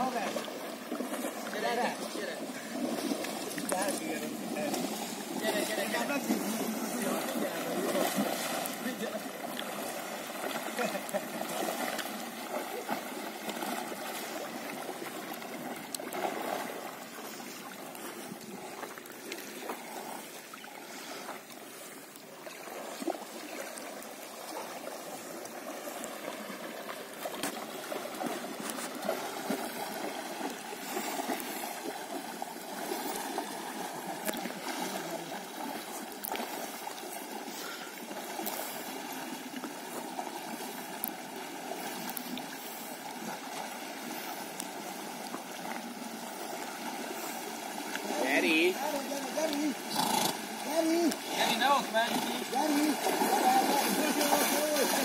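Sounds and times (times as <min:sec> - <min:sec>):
horses wading through river water: 0:00.0 - 0:55.0
small water splashes: 0:00.0 - 0:55.0.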